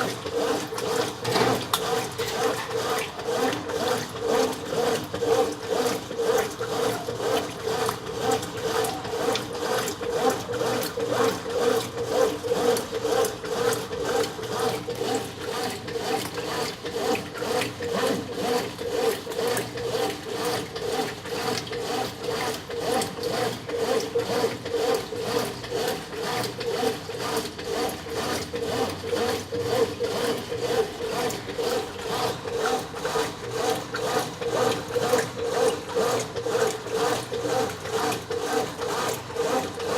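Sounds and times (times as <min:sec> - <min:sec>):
washing machine agitating: 0:00.0 - 0:39.9.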